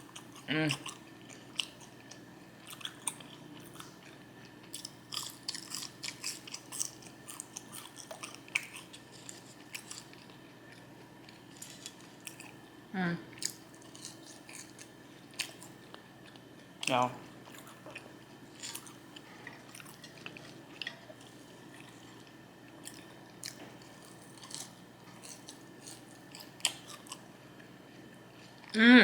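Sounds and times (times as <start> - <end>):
chewing and crunching food: 0.0 - 28.8.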